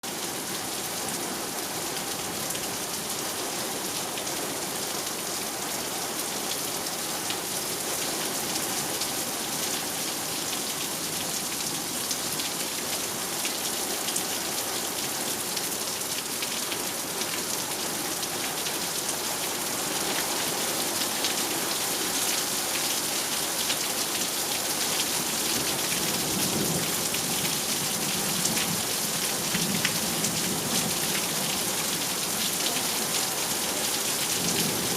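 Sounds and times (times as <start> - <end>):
heavy rain on hard surfaces: 0.0 - 34.9.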